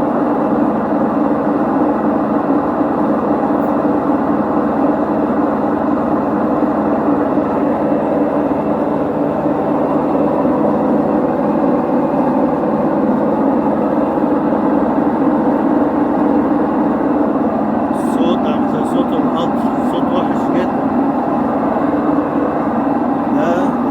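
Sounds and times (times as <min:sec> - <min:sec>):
washing machine running: 0:00.0 - 0:23.9.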